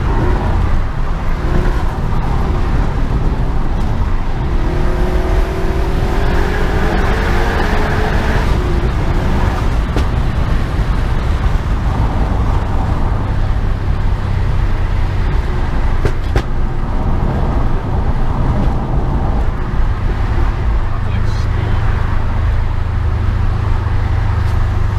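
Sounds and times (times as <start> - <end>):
car engine running: 0.0 - 24.9
road noise: 0.0 - 24.9.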